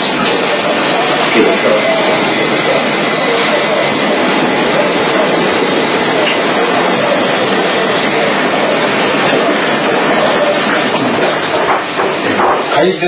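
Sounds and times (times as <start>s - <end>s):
faint voices: 0.0s - 13.0s
steady rushing noise: 0.0s - 13.0s.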